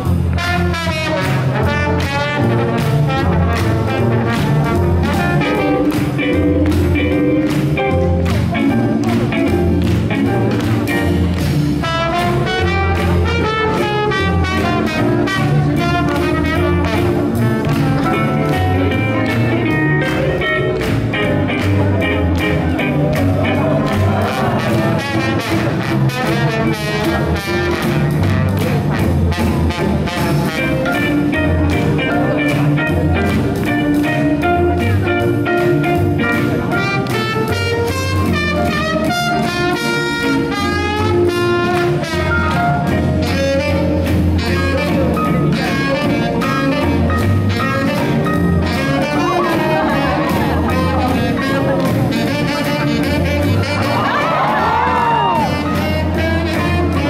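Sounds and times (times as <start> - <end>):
swing jazz music: 0.0 - 57.0.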